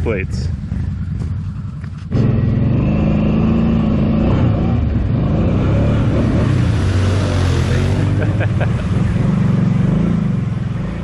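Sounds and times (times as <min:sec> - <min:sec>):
atv engine revving: 0:00.5 - 0:11.0.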